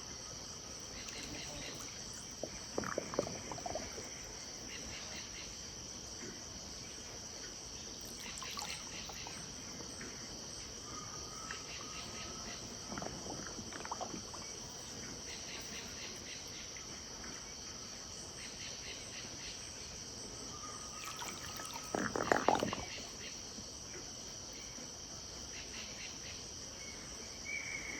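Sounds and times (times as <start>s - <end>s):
insects chorus: 0.0s - 27.9s.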